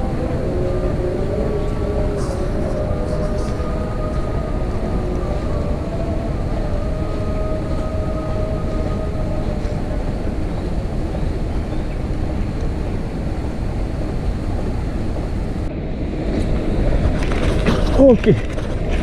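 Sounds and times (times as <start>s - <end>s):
faint machine hum: 0.0s - 19.0s
wind buffeting microphone: 0.0s - 19.0s.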